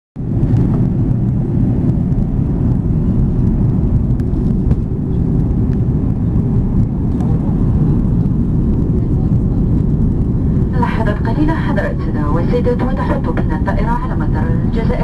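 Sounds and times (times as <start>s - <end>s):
jet engine and airflow rumble in cabin: 0.2s - 15.0s.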